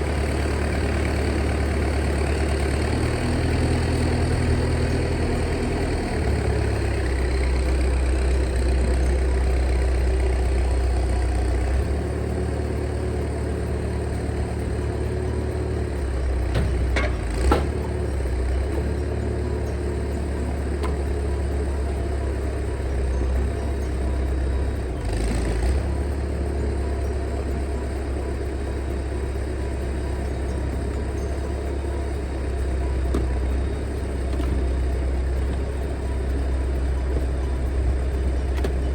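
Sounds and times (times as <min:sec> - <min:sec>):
engine running at low speed: 0:00.0 - 0:38.9.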